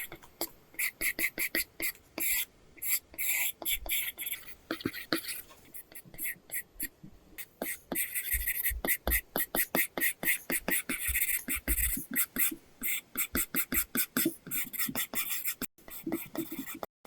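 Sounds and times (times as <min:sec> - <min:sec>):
stylus tapping and scratching screen: 0:00.0 - 0:16.9.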